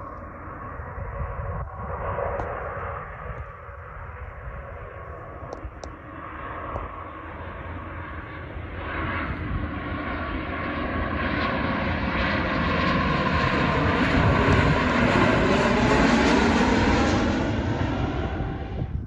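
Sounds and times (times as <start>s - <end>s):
jet airliner passing: 0.0s - 19.0s.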